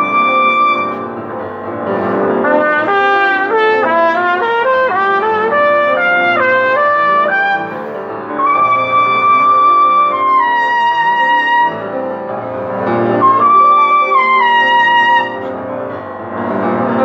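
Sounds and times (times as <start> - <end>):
trumpet playing: 0.0 - 1.4, 2.0 - 15.7
sustained piano chords: 0.0 - 17.0.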